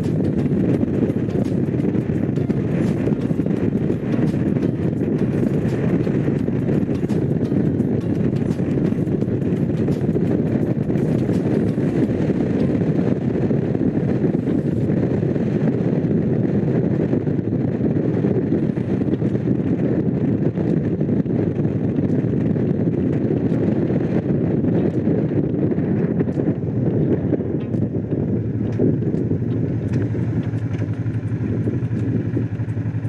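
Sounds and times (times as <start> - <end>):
motorcycle engine cruising: 0.0 - 33.0
wind on microphone: 0.0 - 33.0.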